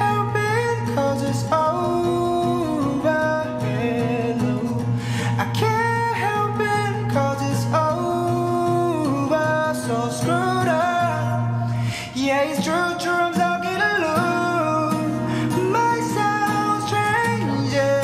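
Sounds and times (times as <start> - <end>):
acoustic guitar: 0.0 - 18.0
man singing: 0.0 - 18.0.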